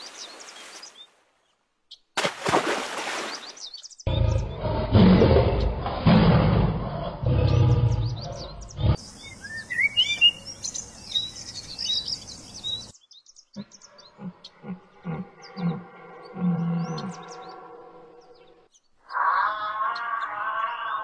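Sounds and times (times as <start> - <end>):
birds chirping: 0.0 - 2.1, 3.1 - 21.0.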